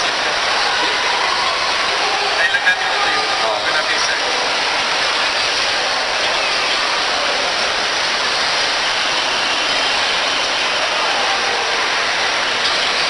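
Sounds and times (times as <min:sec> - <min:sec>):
shopping mall crowd din: 0:00.0 - 0:13.0.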